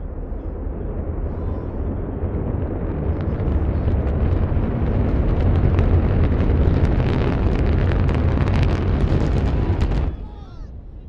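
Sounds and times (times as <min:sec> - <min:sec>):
rocket engines rumbling and crackling: 0:00.0 - 0:11.0.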